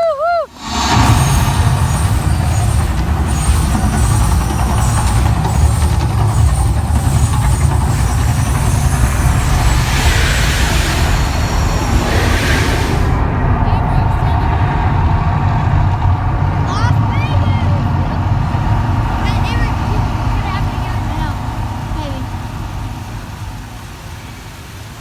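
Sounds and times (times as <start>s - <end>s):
loud low rumble: 0.5s - 23.9s.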